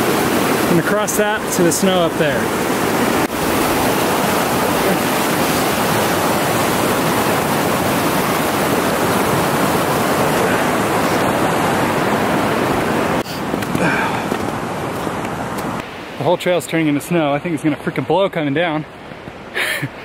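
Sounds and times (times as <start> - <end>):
stream rushing over rocks: 0.0 - 19.8.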